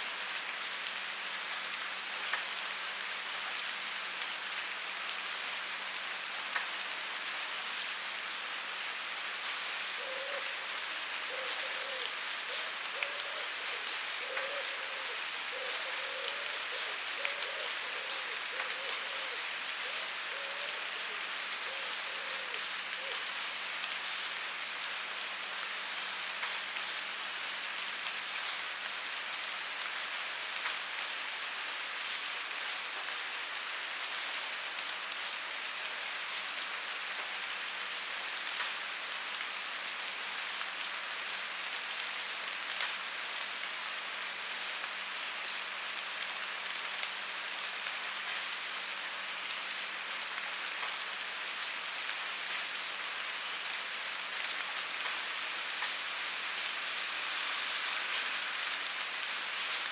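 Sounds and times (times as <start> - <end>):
rain hissing and pattering: 0.0 - 59.9.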